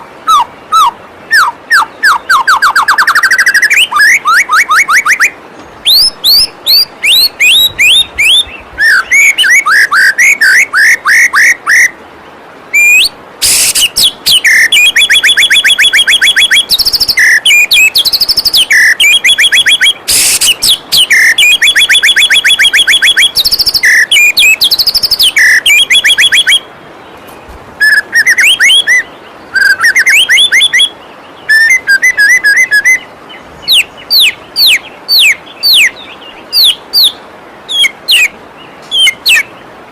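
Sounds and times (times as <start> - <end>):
waterfall rushing: 0.0 - 39.9
songbird whistling and chirping: 0.2 - 12.0, 12.7 - 39.7.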